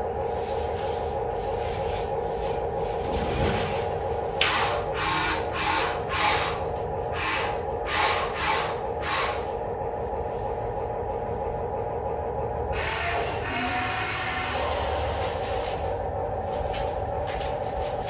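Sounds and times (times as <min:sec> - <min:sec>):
steady whine: 0:00.0 - 0:18.0.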